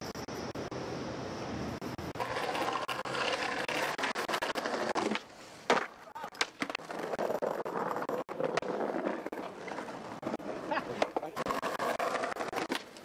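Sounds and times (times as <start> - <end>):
skateboard wheels rolling on concrete: 0.0 - 13.0
skateboard clack: 2.0 - 13.0.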